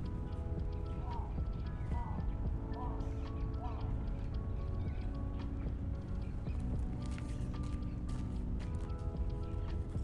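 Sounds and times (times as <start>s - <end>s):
calm background music: 0.0s - 10.0s
bird calls: 0.1s - 8.4s.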